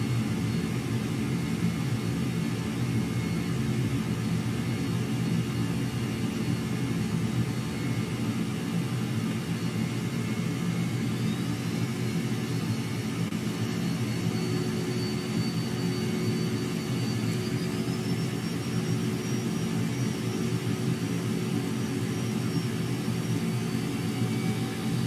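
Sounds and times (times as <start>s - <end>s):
jet engine rumble and whine: 0.0s - 25.0s.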